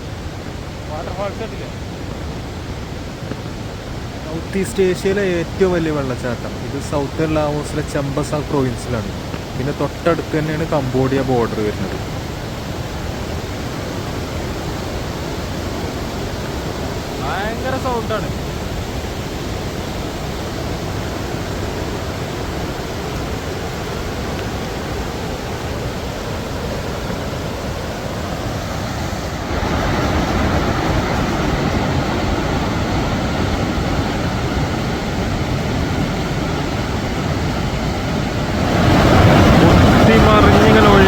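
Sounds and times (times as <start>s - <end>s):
waterfall roaring: 0.0s - 41.0s.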